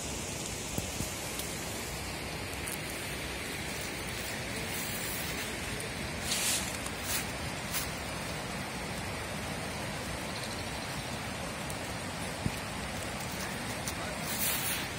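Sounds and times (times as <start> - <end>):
water hissing: 0.0 - 10.2, 11.2 - 14.9.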